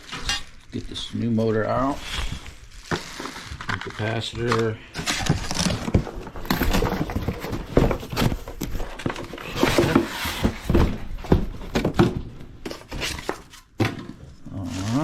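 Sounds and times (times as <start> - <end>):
packaging rustling: 0.0 - 13.8.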